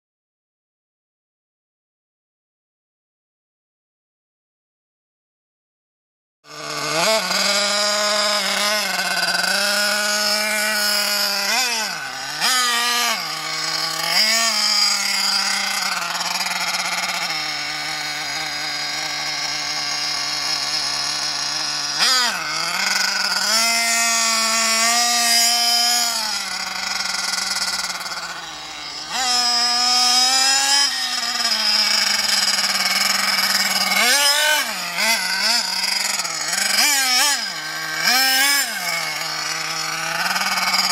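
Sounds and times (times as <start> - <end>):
rc car nitro engine revving: 6.4 - 40.9.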